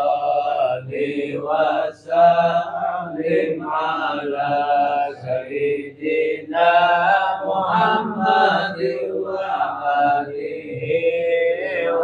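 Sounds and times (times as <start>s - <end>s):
men chanting: 0.0s - 12.0s.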